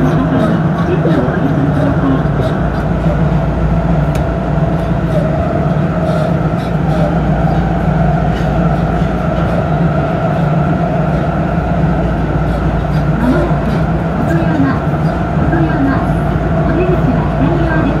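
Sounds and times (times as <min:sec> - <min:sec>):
subway train wheels rumbling: 0:00.0 - 0:18.0.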